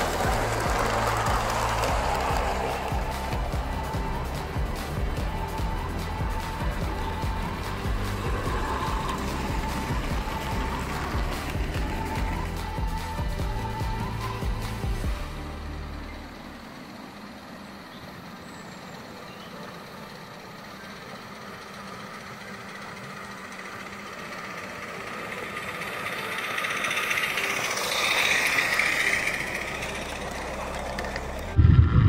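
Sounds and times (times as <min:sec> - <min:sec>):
steam locomotive passing: 0:00.0 - 0:32.0.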